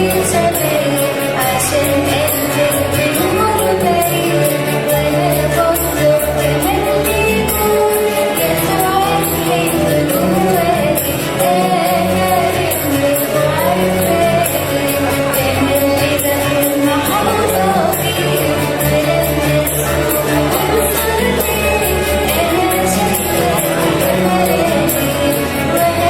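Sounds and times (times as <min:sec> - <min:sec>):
instrumental accompaniment: 0:00.0 - 0:26.0.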